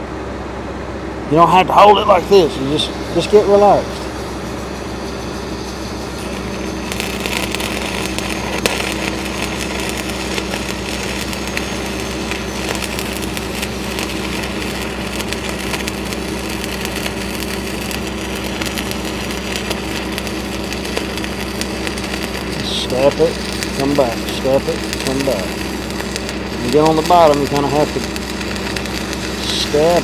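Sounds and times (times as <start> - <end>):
steady engine hum: 0.0 - 30.0
welding arc crackling: 1.8 - 30.0.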